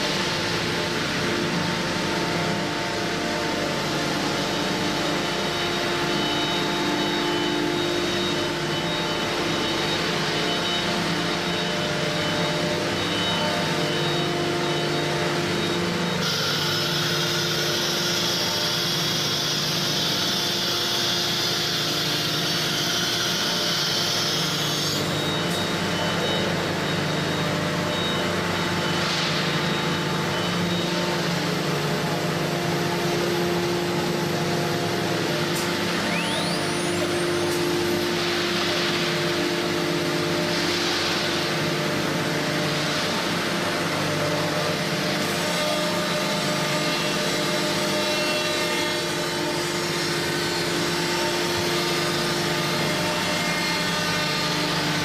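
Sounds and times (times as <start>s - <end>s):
cnc router machinery humming: 0.0s - 55.0s.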